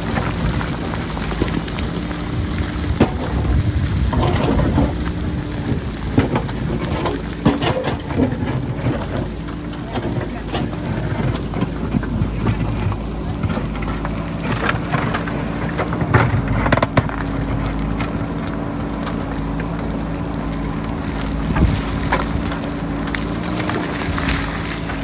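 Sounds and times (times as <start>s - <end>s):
diesel engine under load: 0.0s - 25.0s
wind buffeting microphone: 0.0s - 25.0s.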